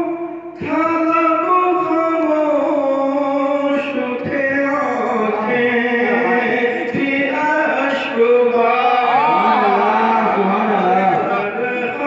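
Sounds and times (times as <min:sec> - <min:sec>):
man chanting verses: 0:00.0 - 0:12.0.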